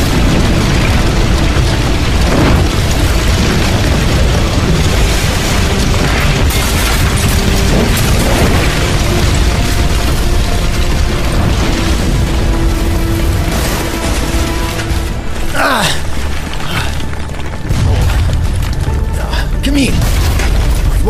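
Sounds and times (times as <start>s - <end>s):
building collapsing rumble: 0.0s - 21.0s
falling debris crashes: 0.0s - 21.0s
music: 0.0s - 21.0s.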